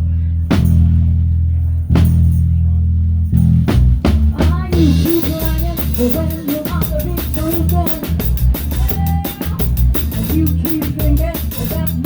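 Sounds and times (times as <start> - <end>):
drums with cymbals: 0.0 - 1.3, 1.9 - 2.5, 3.3 - 12.0
bass guitar low notes: 0.0 - 12.0.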